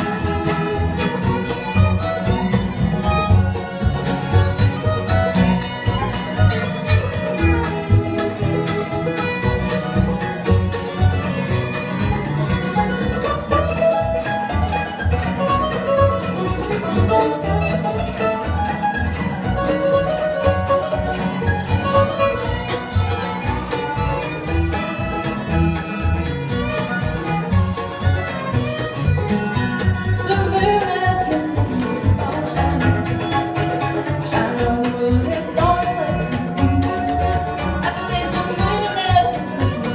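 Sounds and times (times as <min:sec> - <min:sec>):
acoustic guitar: 0:00.0 - 0:39.9
fiddles: 0:00.0 - 0:39.9
mandolin: 0:00.0 - 0:39.9
upright bass: 0:00.0 - 0:39.9.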